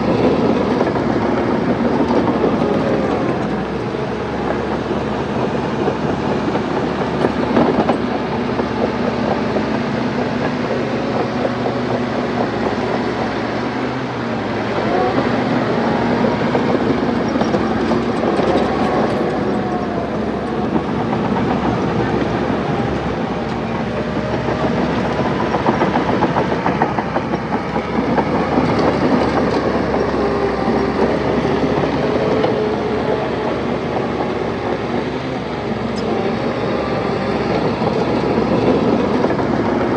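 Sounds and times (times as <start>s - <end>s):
bulldozer diesel engine: 0.0s - 39.9s
steel tracks clanking: 0.0s - 39.9s.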